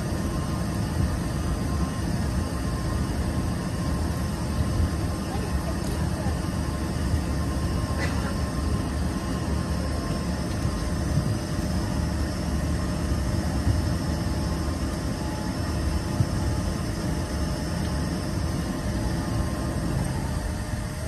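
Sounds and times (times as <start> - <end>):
jet cabin rumble: 0.0 - 21.0.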